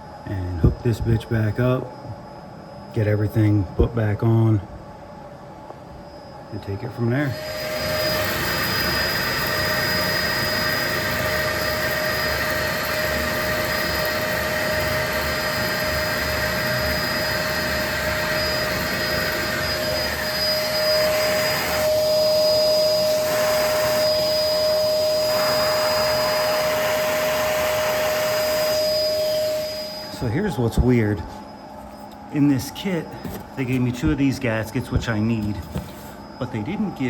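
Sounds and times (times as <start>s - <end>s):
shop vacuum whining: 5.7s - 37.0s.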